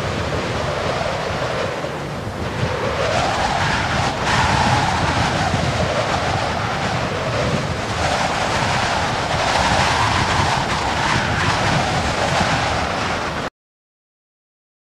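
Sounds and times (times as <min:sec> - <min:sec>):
heavy wind gusting: 0:00.0 - 0:13.5.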